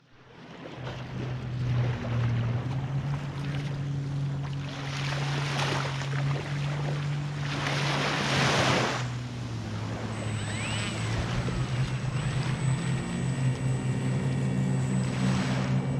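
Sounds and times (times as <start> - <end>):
steady low hum: 0.0 - 15.9
surf washing on shore: 0.4 - 13.3.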